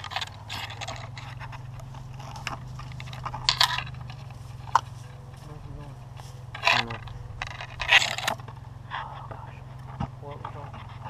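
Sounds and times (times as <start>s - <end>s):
clothing and twigs rustling: 0.0s - 11.0s
steady low hum: 0.0s - 11.0s.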